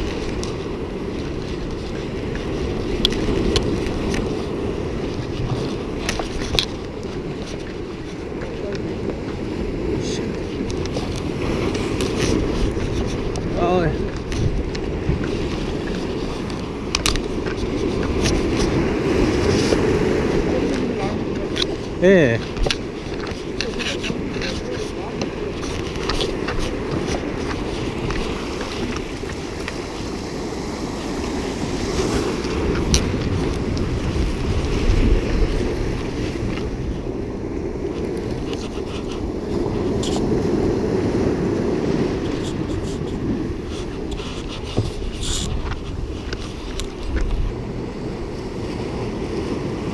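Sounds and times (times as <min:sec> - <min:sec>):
surf breaking on rocks: 0:00.0 - 0:49.9
wind rumbling on microphone: 0:00.0 - 0:49.9.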